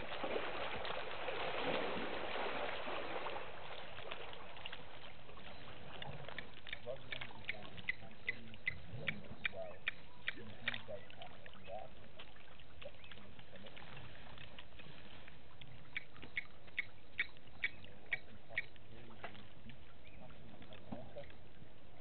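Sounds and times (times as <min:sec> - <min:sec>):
bush ambience: 0:00.0 - 0:22.0.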